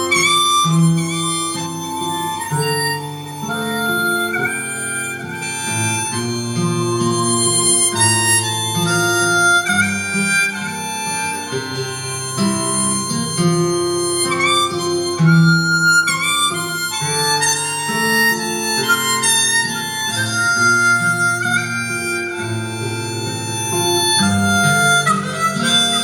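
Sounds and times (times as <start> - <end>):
harmonica solo: 0.0 - 26.0.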